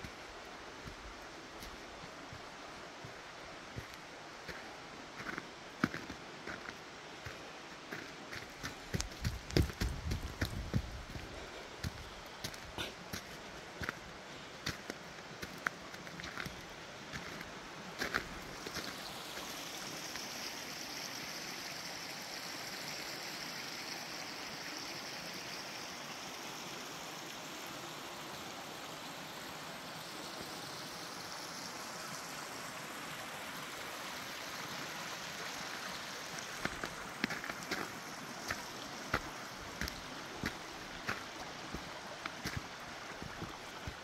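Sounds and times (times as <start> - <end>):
creek water rushing: 0.0 - 44.0.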